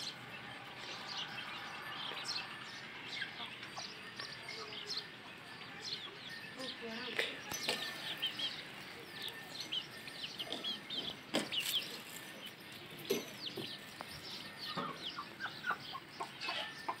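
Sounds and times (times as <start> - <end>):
chicks peeping: 0.7 - 17.0.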